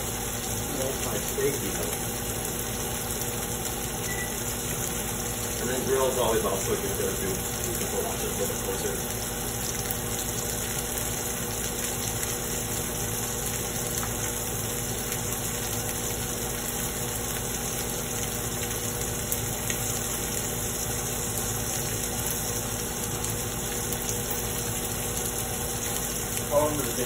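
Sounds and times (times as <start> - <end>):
steak sizzling in a frying pan: 0.0 - 27.0.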